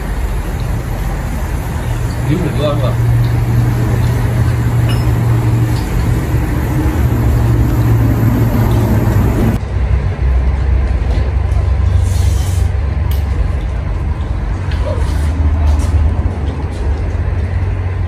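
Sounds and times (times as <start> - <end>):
highway traffic drone: 0.0 - 18.0.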